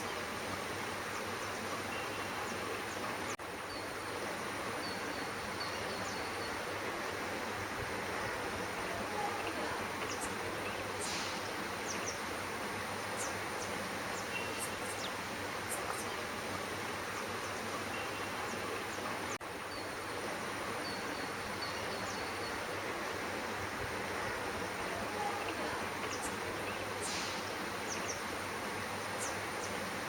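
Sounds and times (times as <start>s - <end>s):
outdoor background hiss: 0.0s - 30.0s.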